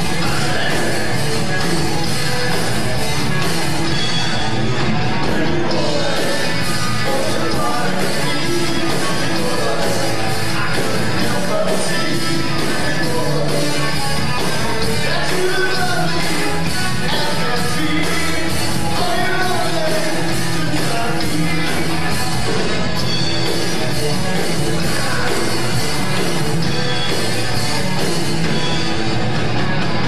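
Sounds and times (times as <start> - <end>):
bass guitar: 0.0 - 30.0
drum kit: 0.0 - 30.0
electric guitars: 0.0 - 30.0
keyboard: 0.0 - 30.0.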